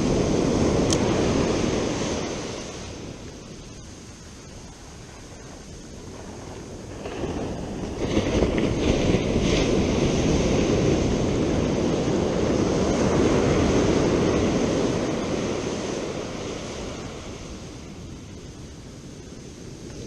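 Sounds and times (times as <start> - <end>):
ocean waves breaking: 0.0 - 20.0
wind noise on microphone: 0.0 - 20.0.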